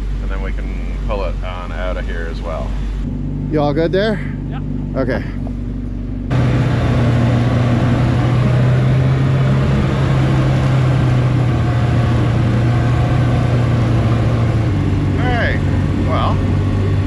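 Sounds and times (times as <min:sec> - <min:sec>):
snowcat engine running: 0:00.0 - 0:17.0.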